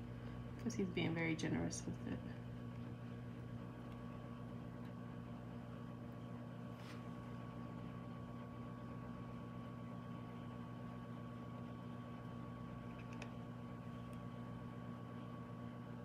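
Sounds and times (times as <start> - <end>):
kitchen appliance humming: 0.0 - 16.0.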